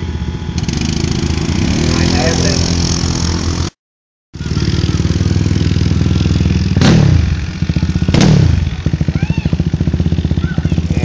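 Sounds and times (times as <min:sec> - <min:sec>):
pit bike engine running: 0:00.0 - 0:03.7, 0:04.4 - 0:11.0.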